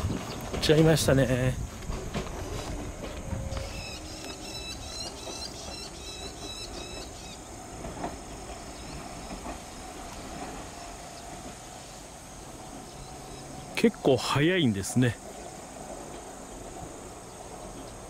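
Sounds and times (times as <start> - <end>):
train rail running noise: 0.0 - 18.0.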